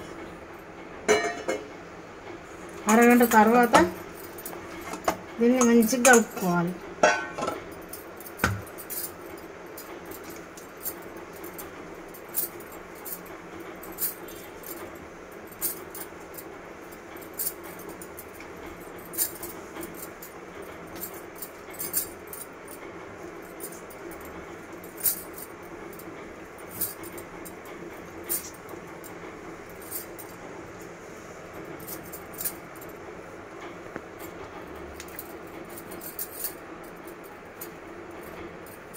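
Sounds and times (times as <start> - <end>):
steady background hiss: 0.0 - 38.9
bangles clinking: 2.7 - 30.4, 31.6 - 33.1, 34.2 - 38.9.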